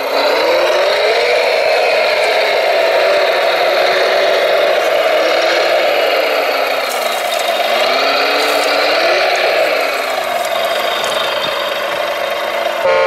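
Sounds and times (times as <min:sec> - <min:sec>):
toy wheel loader mechanical whir: 0:00.0 - 0:13.0.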